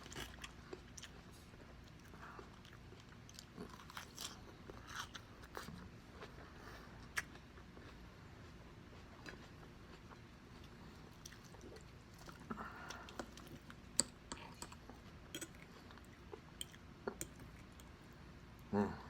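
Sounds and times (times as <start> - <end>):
person chewing food: 0.0 - 18.3.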